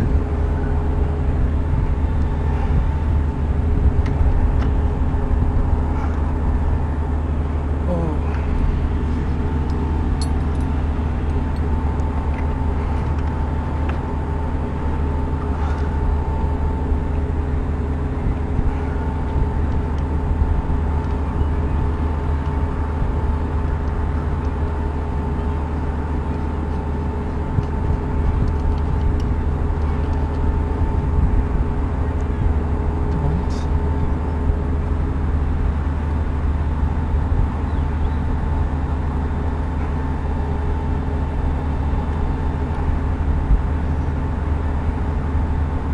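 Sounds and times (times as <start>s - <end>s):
low rumble: 0.0s - 45.9s
machinery hum: 0.0s - 45.9s.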